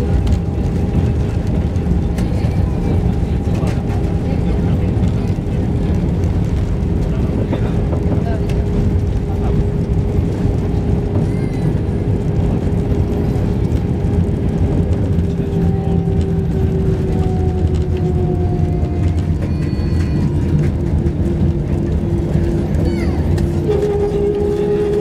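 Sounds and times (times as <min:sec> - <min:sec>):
jet engine hum: 0:00.0 - 0:25.0
low rumble of aircraft wheels: 0:00.0 - 0:25.0.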